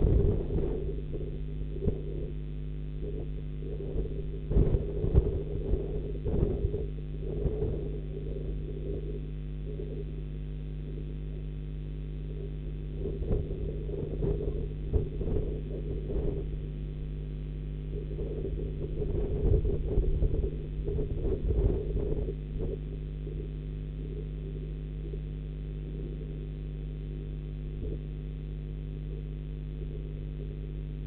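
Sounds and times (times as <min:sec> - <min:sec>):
electrical mains hum: 0:00.0 - 0:31.0
low rumbles: 0:00.0 - 0:31.0.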